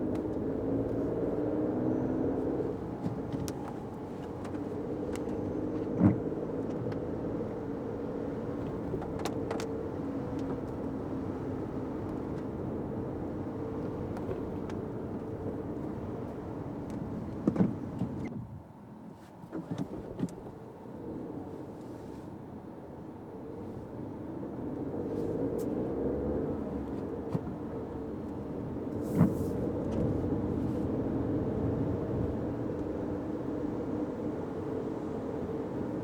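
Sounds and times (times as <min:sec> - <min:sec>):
car engine and tyre noise: 0:00.0 - 0:36.0.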